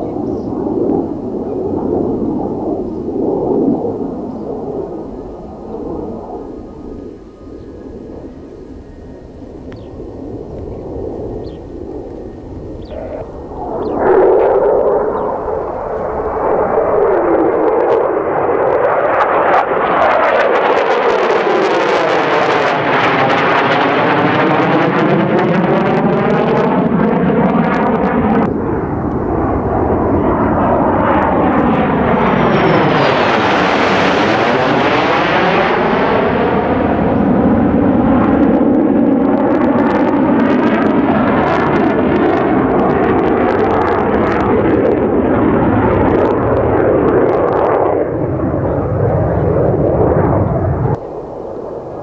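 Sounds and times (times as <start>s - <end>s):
jet engine roaring: 0.0s - 52.0s.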